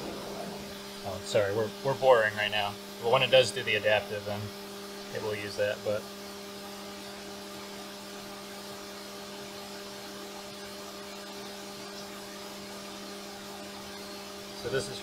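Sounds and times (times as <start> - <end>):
coolant spraying hiss: 0.0 - 15.0
mill spindle humming: 0.0 - 15.0.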